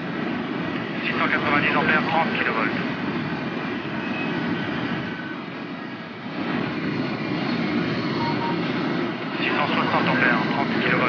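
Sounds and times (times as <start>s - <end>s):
high-speed train rushing: 0.0s - 11.0s.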